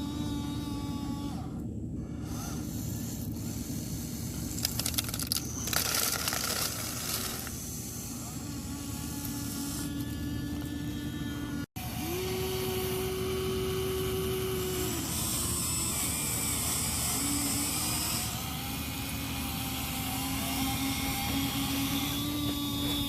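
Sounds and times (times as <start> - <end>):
toy excavator motors whining: 0.0 - 23.0.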